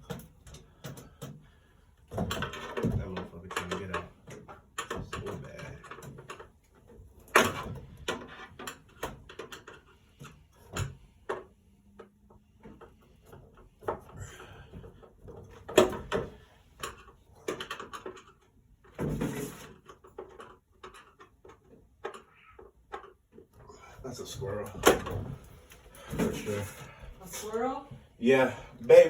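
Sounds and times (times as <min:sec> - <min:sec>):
knocking and rattling at a vent: 0:00.0 - 0:29.0.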